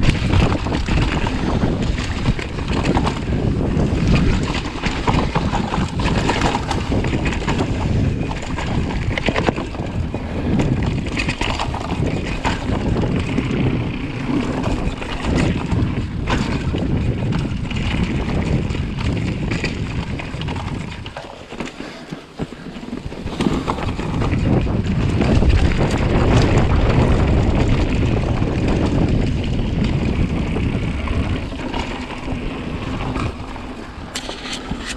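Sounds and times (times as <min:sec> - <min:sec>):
bike tyre rumble on dirt: 0:00.0 - 0:34.9
wind buffeting microphone: 0:00.0 - 0:34.9.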